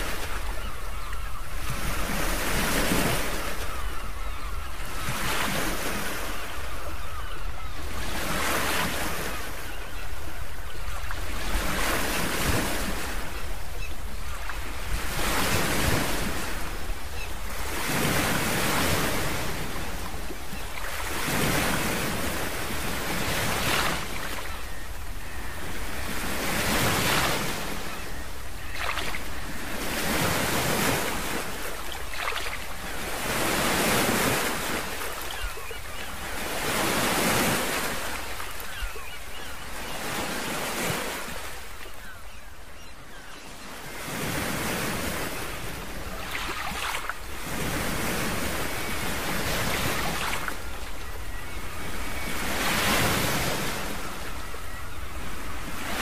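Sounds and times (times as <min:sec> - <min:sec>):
ocean waves washing ashore: 0:00.0 - 0:42.9, 0:43.6 - 0:56.0.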